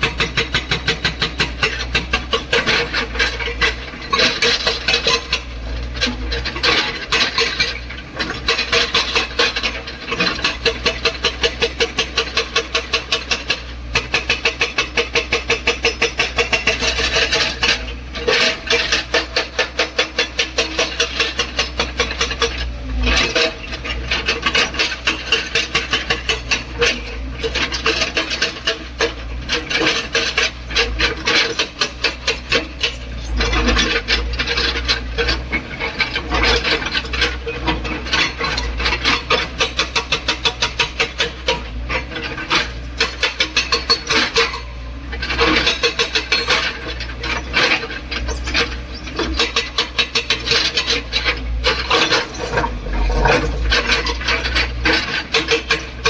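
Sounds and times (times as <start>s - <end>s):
hydraulic breaker hammering: 0.0s - 56.0s.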